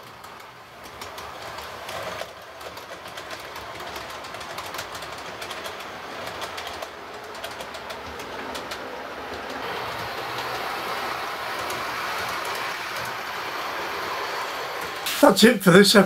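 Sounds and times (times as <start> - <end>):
wheels clicking over rail joints: 0.0 - 15.1
model train motor whirring: 0.0 - 15.2.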